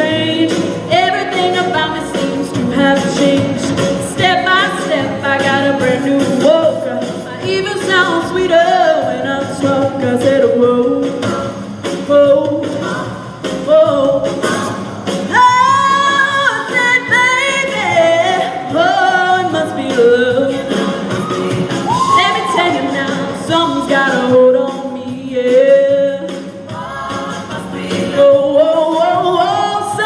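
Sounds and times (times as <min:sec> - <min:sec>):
group of voices singing: 0:00.0 - 0:30.0.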